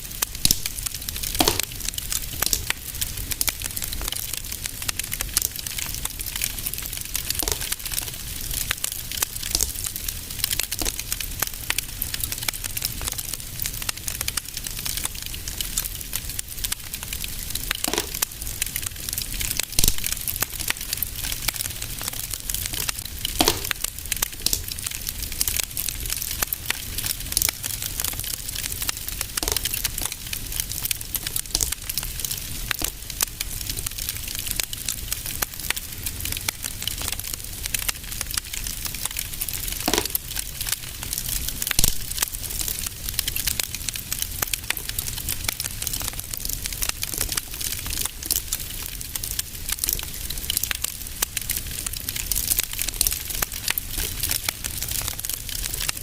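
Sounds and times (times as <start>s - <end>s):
sharp fire pops: 0.0s - 52.4s
soft fire hiss: 0.0s - 54.3s
wood fire crackling and popping: 0.0s - 56.0s.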